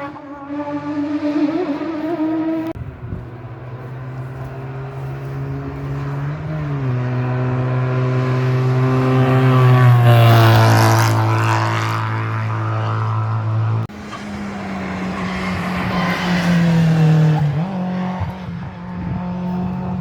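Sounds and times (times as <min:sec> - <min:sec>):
different engine note: 0:00.0 - 0:20.0
racing car engine passing: 0:00.0 - 0:20.0.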